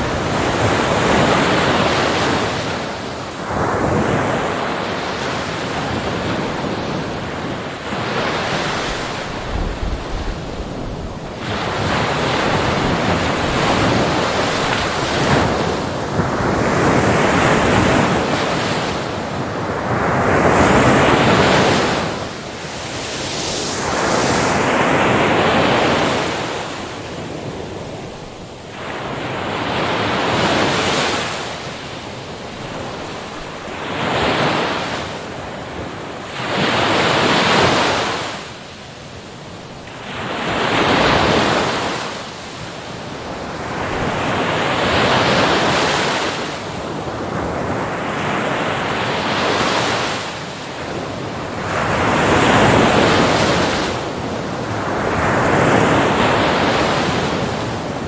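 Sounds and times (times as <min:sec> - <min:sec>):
ocean waves breaking on beach: 0:00.0 - 0:58.0
wind on microphone: 0:00.0 - 0:58.0.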